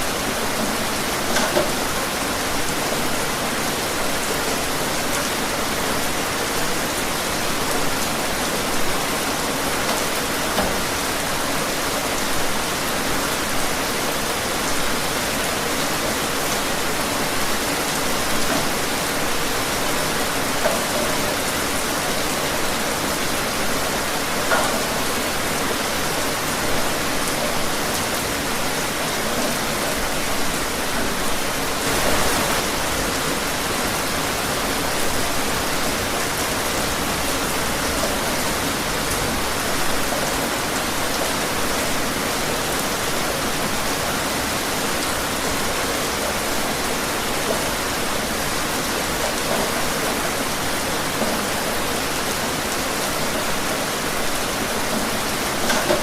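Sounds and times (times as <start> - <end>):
rain spatters: 0.0 - 56.0
steady rain falling: 0.0 - 56.0.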